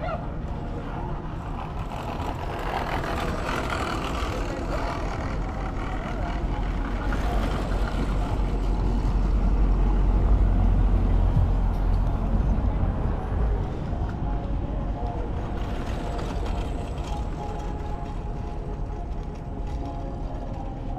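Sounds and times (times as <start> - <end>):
background voices: 0.0 - 20.9
heavy vehicle engine rumbling: 0.0 - 20.9.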